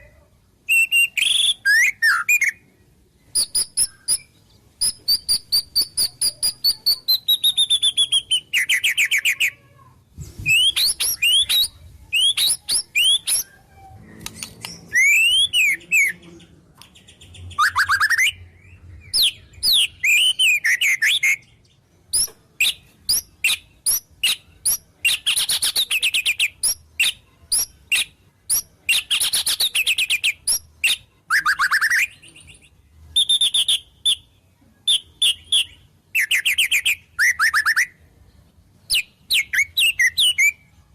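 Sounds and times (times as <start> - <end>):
songbird singing varied song: 0.6 - 9.5, 10.2 - 38.0, 38.8 - 40.7.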